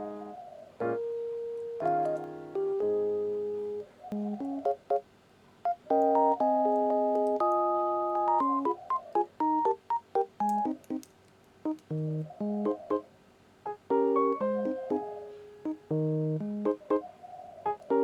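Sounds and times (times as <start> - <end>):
light keyboard tune: 0.0 - 17.1, 17.7 - 18.0.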